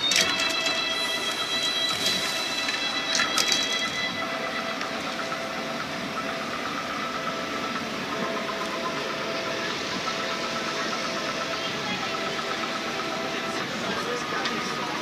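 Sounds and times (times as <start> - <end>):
faint engine hum: 0.0 - 15.0
street traffic noise: 0.0 - 15.0.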